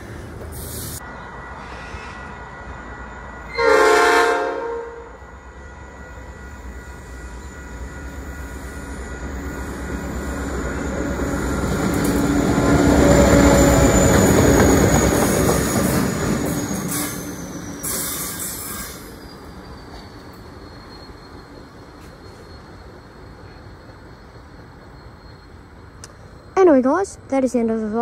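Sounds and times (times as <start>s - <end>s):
train wheel noise: 0.0s - 28.0s.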